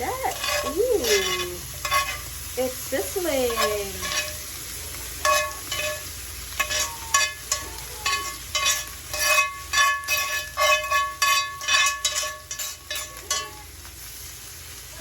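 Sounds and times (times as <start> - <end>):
metal spatula scraping: 0.0 - 14.3
meat sizzling on hot plate: 0.0 - 15.0.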